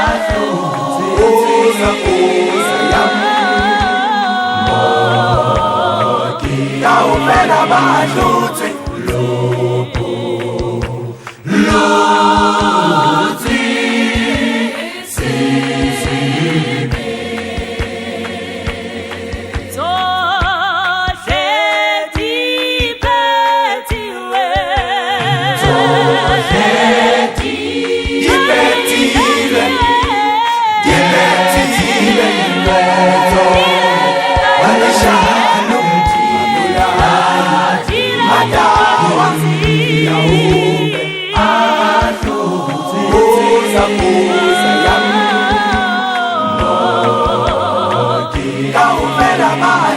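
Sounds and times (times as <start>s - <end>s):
sharp beats keeping time: 0.0s - 49.9s
vocal group singing in harmony: 0.0s - 49.9s.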